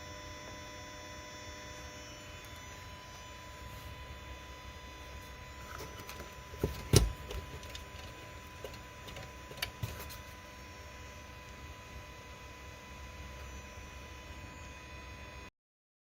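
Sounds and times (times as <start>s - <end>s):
steady hum: 0.0s - 15.5s.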